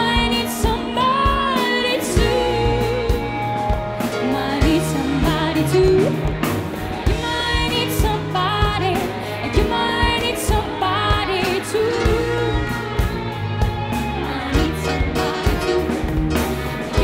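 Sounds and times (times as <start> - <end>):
bass: 0.0 - 17.0
drums steady beat: 0.0 - 17.0
electric guitar: 0.0 - 17.0
keyboard: 0.0 - 17.0.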